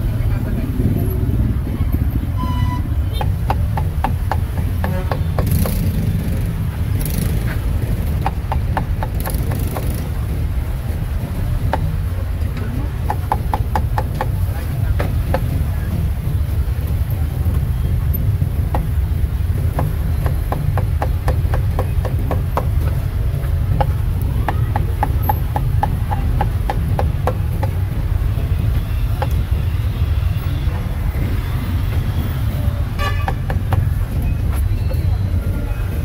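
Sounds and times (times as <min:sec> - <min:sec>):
low rumble of traffic: 0:00.0 - 0:36.0.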